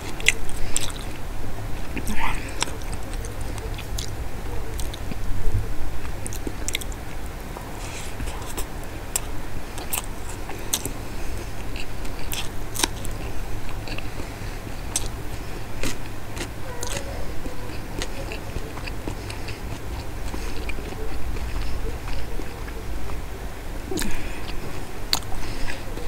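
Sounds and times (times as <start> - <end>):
person chewing with wet clicks: 0.0 - 5.3, 6.0 - 26.0
steady low hum: 0.0 - 26.0.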